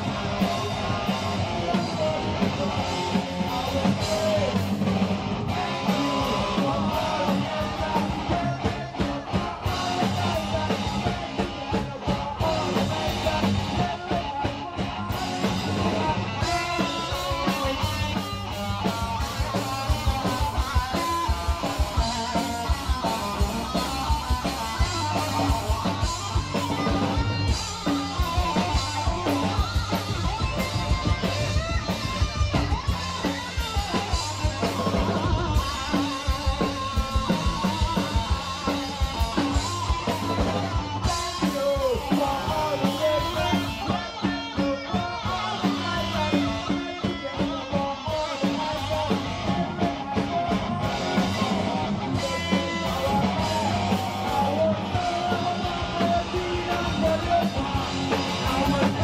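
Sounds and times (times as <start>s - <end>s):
distorted electric guitars: 0.0s - 59.0s
fast drum kit with cymbals: 0.0s - 59.0s
person singing: 0.0s - 59.0s.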